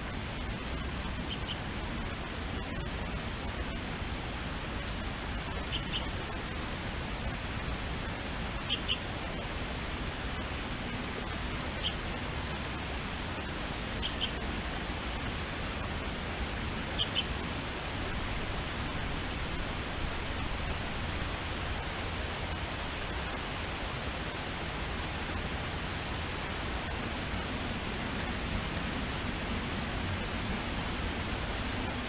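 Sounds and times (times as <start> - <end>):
steady background hiss: 0.0 - 32.0.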